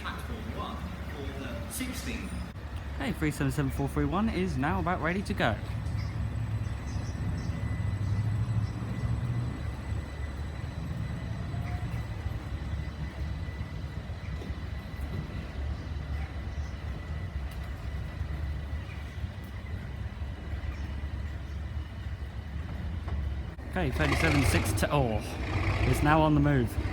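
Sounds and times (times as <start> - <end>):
train low rumble: 0.0 - 26.9.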